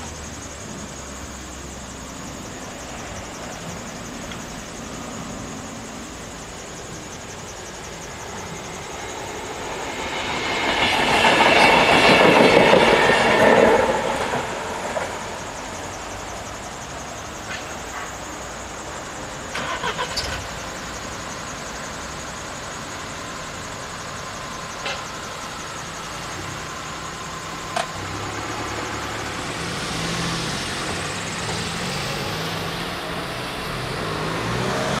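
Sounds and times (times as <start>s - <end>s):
car engines idling and pulling away: 0.0s - 35.0s.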